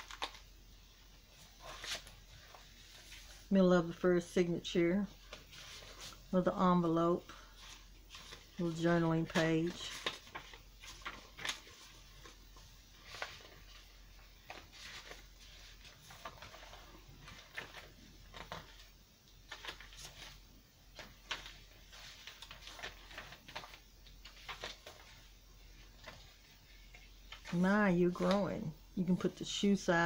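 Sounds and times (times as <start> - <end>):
paper pages rustling: 0.0 - 0.5, 1.3 - 3.5, 5.1 - 6.6, 7.2 - 30.0
low steady hum: 0.0 - 30.0.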